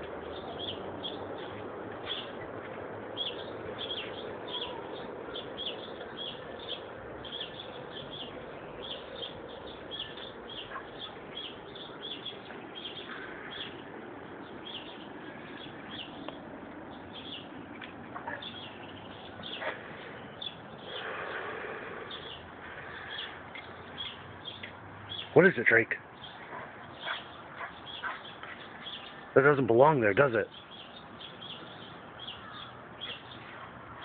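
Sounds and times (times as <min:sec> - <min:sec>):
steady background noise: 0:00.0 - 0:34.0
small bird chirping: 0:03.2 - 0:25.4, 0:26.2 - 0:29.2, 0:30.4 - 0:33.6.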